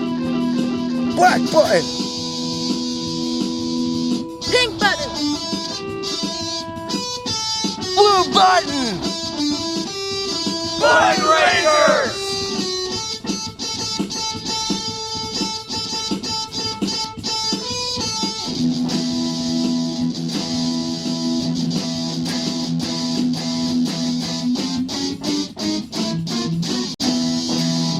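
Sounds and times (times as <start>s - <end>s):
guitar-driven rock music: 0.0s - 27.9s.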